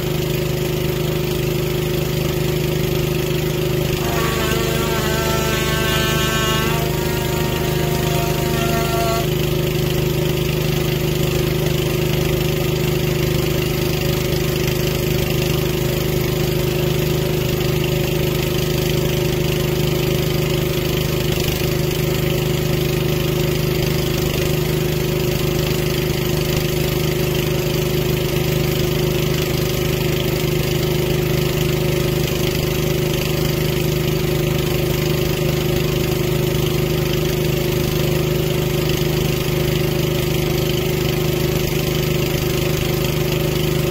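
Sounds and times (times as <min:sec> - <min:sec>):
small engine running steadily: 0:00.0 - 0:43.9.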